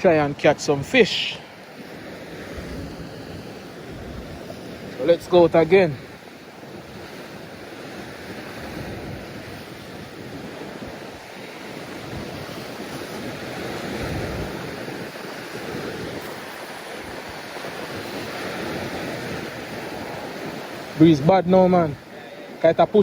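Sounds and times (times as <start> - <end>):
sea surf on rocky shore: 0.0 - 23.0
wind buffeting microphone: 0.0 - 23.0.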